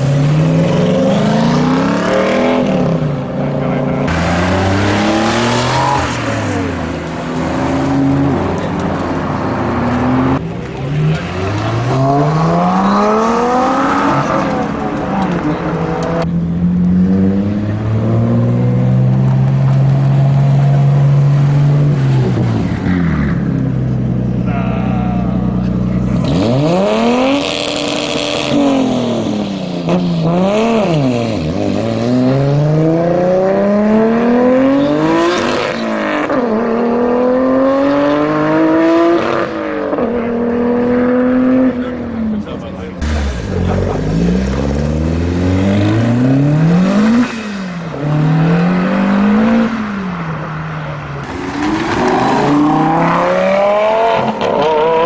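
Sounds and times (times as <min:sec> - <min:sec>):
car engine revving and accelerating: 0:00.0 - 0:55.0.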